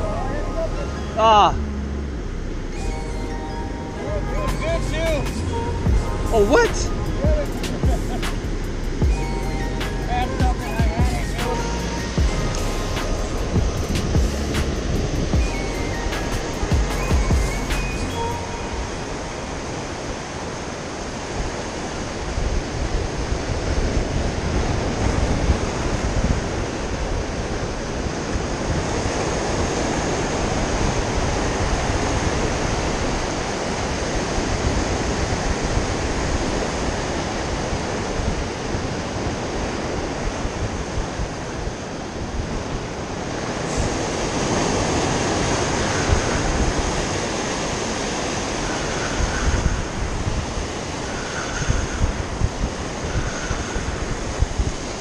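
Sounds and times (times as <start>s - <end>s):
wind rumbling on microphone: 0.0s - 55.0s.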